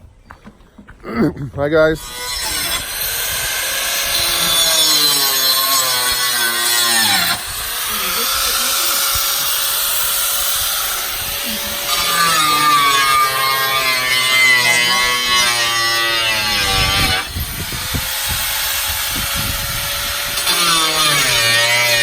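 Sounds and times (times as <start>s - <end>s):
electric power saw cutting: 2.0s - 22.0s.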